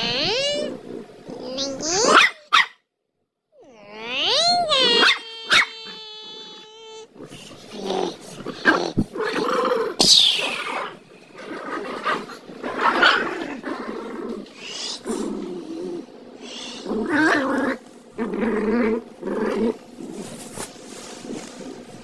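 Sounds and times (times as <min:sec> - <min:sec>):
small dogs growling: 0:00.0 - 0:02.6, 0:03.6 - 0:22.0.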